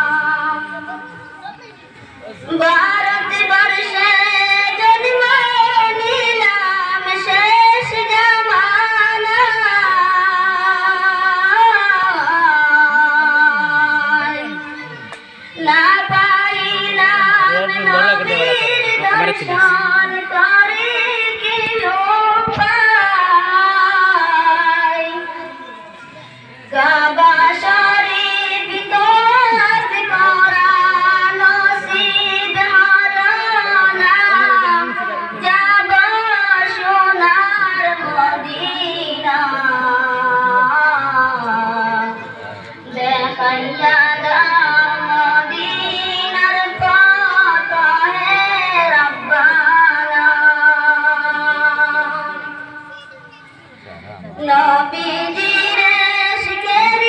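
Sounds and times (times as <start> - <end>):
person singing unaccompanied: 0.0 - 1.3, 2.5 - 53.1, 54.3 - 57.0.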